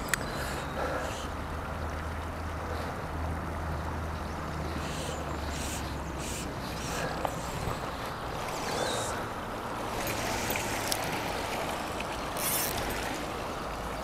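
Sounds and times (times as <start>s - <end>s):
fast-flowing river rushing: 0.0s - 14.0s.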